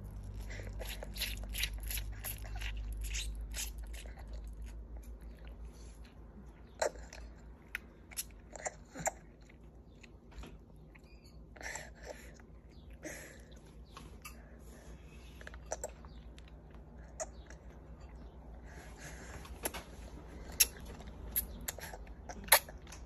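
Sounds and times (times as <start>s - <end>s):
child chewing and smacking: 0.0s - 23.0s.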